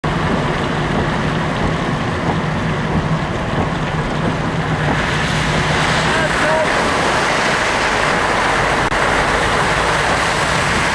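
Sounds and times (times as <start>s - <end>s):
car engine droning: 0.0s - 10.9s
tyre noise on wet road: 0.0s - 10.9s.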